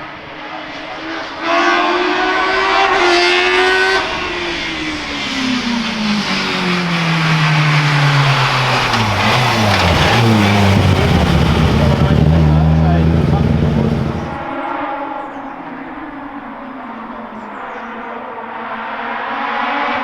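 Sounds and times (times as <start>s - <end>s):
race car engine at high revs: 0.0s - 20.0s
second lower engine note: 1.1s - 18.4s.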